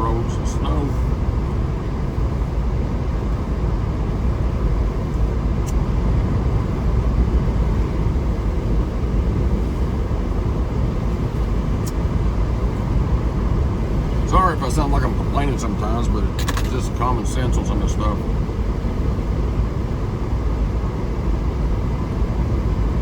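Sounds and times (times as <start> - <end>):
vehicle engine and tyre rumble: 0.0 - 23.0.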